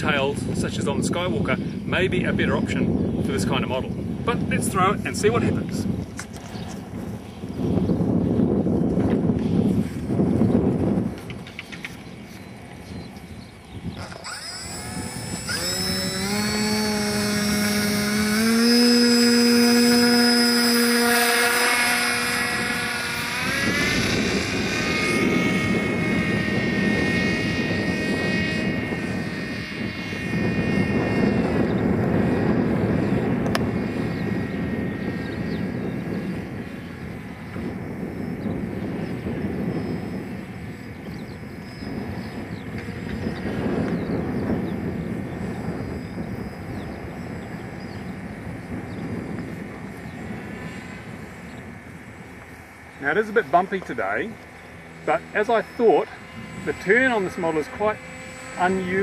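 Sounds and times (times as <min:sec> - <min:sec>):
electric propeller whine: 0:00.0 - 0:59.0
wind noise on microphone: 0:00.0 - 0:59.0.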